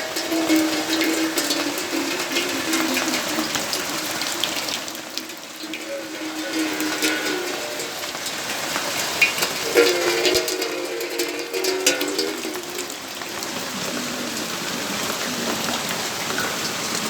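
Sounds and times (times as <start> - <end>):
raindrops on hard surfaces: 0.0 - 17.0
water running and splashing: 0.0 - 17.0.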